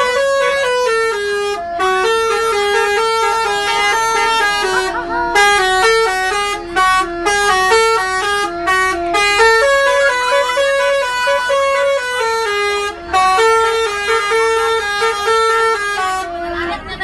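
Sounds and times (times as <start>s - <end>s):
musical air horns playing a tune: 0.0s - 16.6s.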